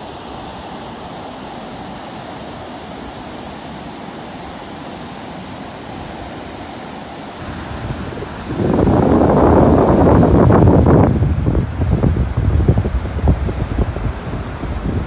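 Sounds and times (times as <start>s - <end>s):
sea surf breaking: 0.0s - 15.0s
wind: 0.0s - 15.0s.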